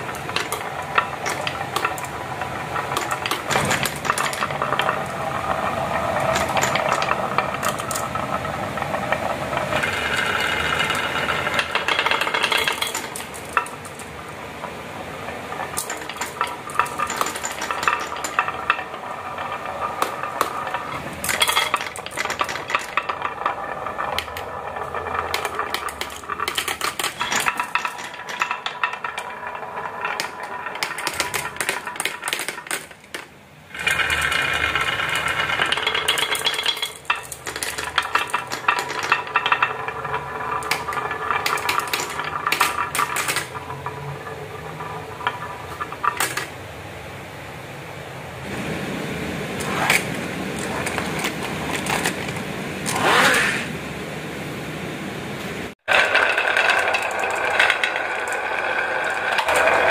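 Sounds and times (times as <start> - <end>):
marbles rolling and clattering on track: 0.0 - 47.1, 49.6 - 53.7, 55.7 - 59.9.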